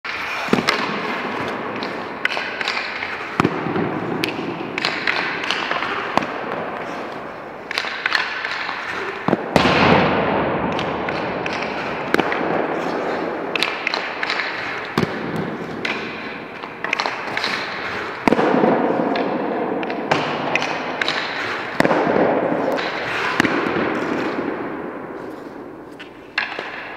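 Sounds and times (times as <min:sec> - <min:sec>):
skates scraping on ice: 0:00.1 - 0:10.1, 0:10.7 - 0:26.9
pucks cracking against pads: 0:00.1 - 0:26.9.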